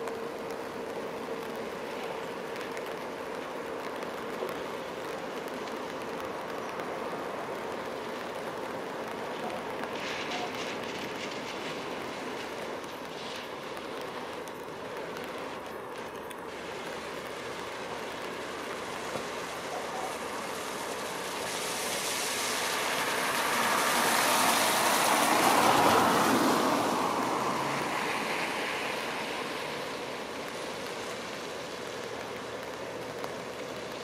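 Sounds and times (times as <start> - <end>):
steady background hiss: 0.0 - 34.0
vehicle tyre hiss passing: 0.0 - 34.0.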